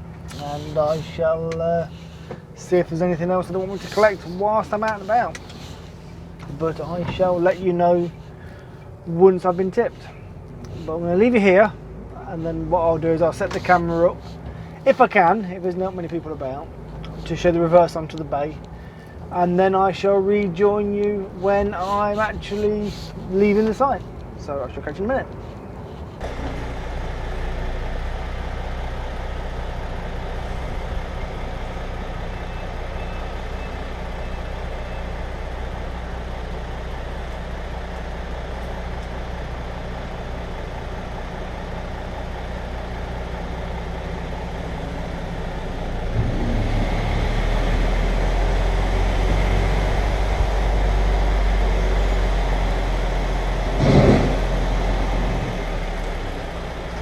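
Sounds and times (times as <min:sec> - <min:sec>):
lorry diesel engine running: 0:00.0 - 0:57.0.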